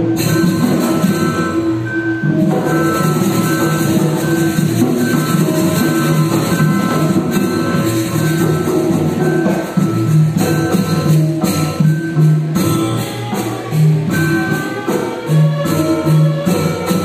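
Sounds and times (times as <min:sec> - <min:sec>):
percussion ensemble music: 0:00.0 - 0:17.0.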